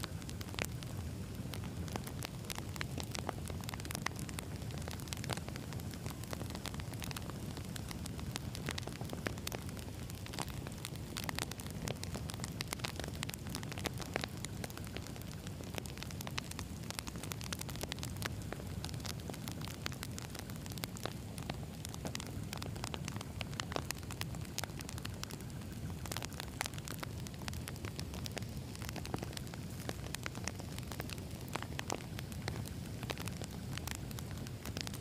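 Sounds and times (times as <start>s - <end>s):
campfire crackling and popping: 0.0s - 35.0s
low rumble of flames: 0.0s - 35.0s.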